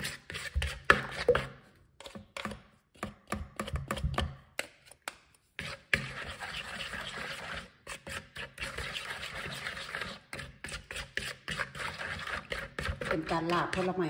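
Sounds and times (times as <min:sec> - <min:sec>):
spoons scraping a plastic bowl: 0:00.0 - 0:14.0.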